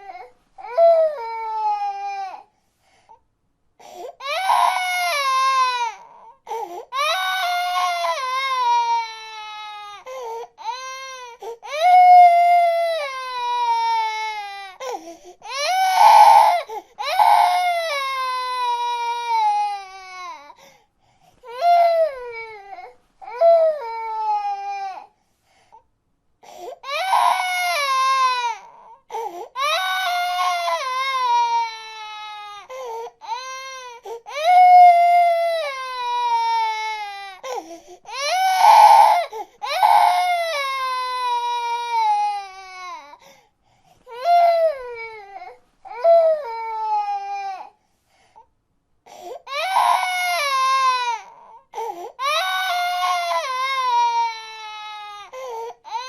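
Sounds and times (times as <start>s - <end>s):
baby crying: 0.0s - 2.5s, 3.9s - 20.6s, 21.4s - 25.1s, 26.5s - 43.3s, 44.1s - 47.8s, 49.1s - 56.0s.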